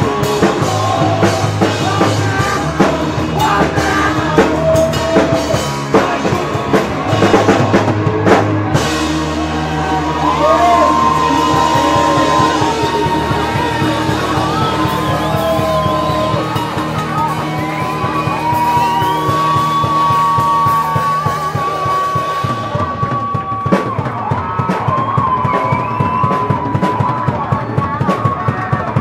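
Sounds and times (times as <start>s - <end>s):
live rock band: 0.0s - 29.0s.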